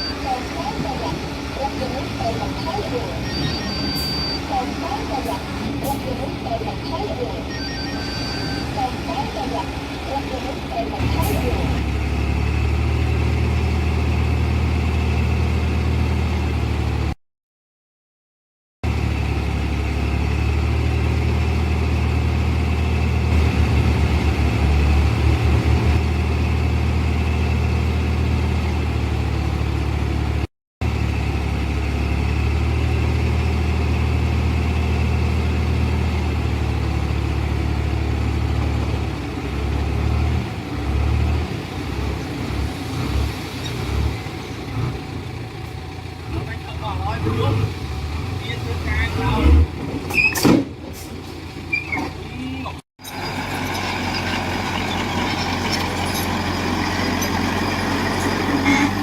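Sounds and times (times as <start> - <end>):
heavy diesel engine running: 0.0 - 17.2, 18.8 - 42.9, 44.1 - 50.0, 50.7 - 59.0.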